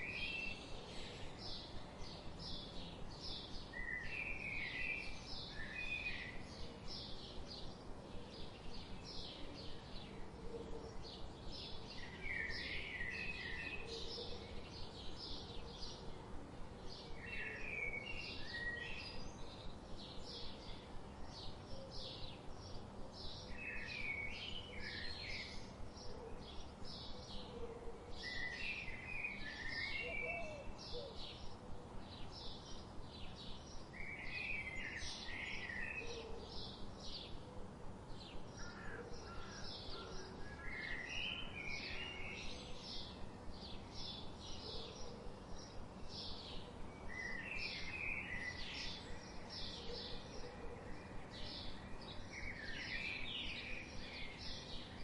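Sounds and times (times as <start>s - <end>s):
faint steady hum: 0.0s - 55.0s
warbled bird song: 0.0s - 55.0s.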